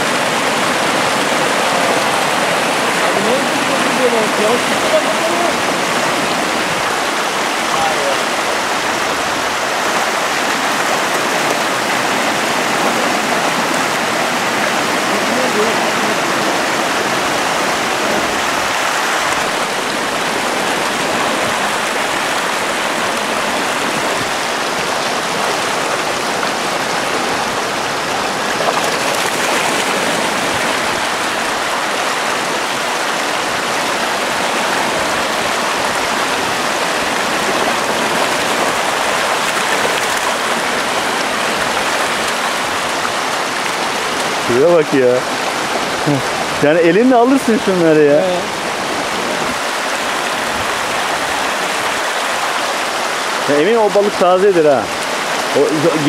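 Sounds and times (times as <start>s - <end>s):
stream water rushing over rocks: 0.0s - 56.0s.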